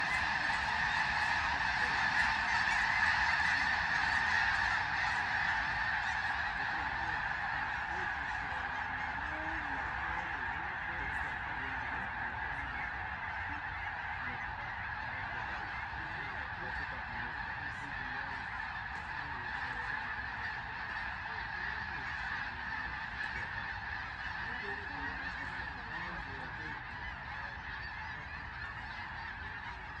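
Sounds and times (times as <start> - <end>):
snow geese honking: 0.0 - 30.0.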